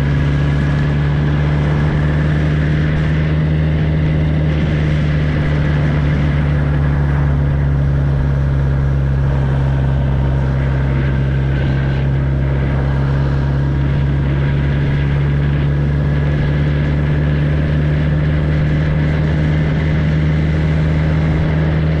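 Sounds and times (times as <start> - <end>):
motorcycle engine open exhaust: 0.0 - 22.0.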